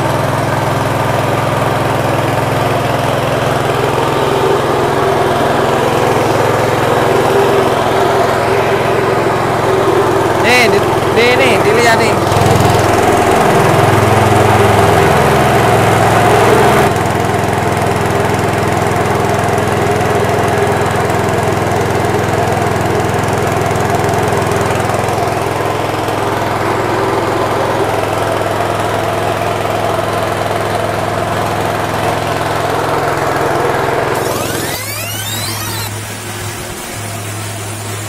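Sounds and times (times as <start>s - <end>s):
small petrol engine running: 0.0s - 38.0s.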